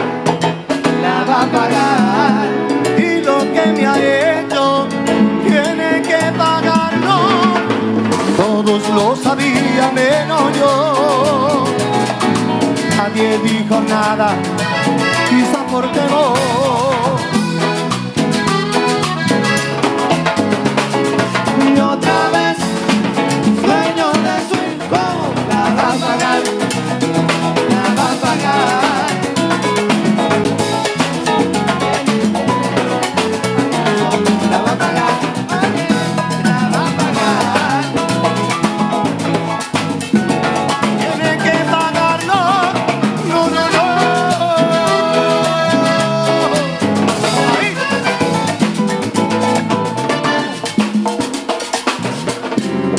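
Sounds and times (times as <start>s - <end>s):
accordion: 0.0s - 52.9s
live band playing dance music: 0.0s - 52.9s.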